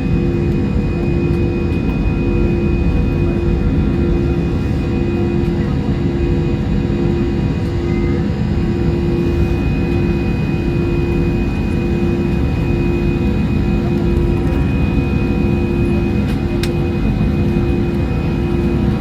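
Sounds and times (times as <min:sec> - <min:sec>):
jet engines and airflow in cabin: 0:00.0 - 0:19.0.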